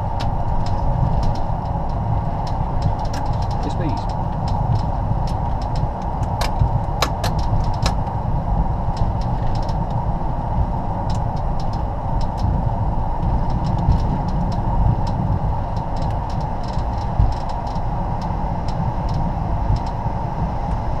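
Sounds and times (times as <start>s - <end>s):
sharp clicks and rattles: 0.0s - 8.3s, 8.9s - 20.1s
aircraft engine and rolling rumble: 0.0s - 21.0s.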